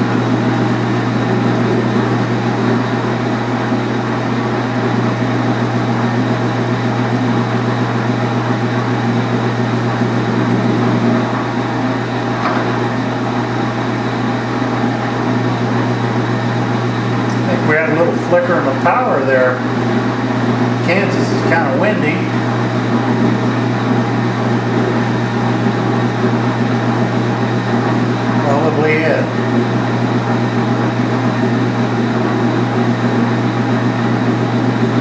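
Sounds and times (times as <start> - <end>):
metal lathe motor hum: 0.0 - 35.0.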